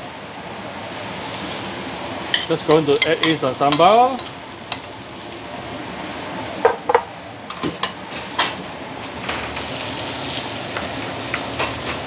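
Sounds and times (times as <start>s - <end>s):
prawns sizzling in a frying pan: 0.8s - 7.0s, 7.7s - 12.0s.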